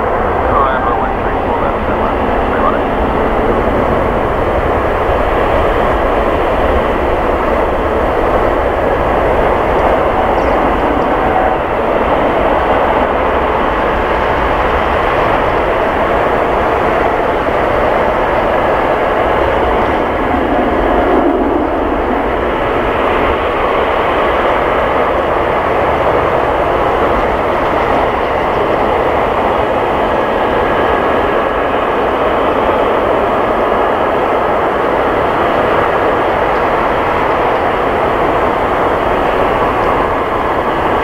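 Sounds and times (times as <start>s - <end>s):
airliner jet noise: 0.0s - 41.0s.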